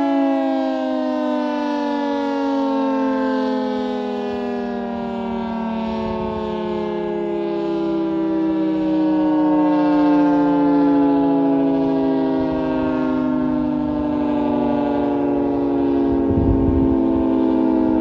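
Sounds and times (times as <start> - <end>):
warning siren howling: 0.0 - 18.0.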